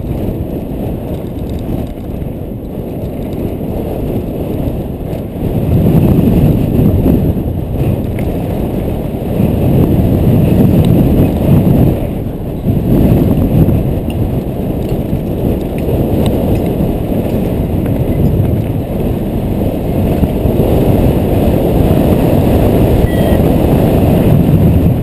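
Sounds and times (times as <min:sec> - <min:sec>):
bike tyres rumbling on dirt: 0:00.0 - 0:25.0
wind buffeting microphone: 0:00.0 - 0:25.0.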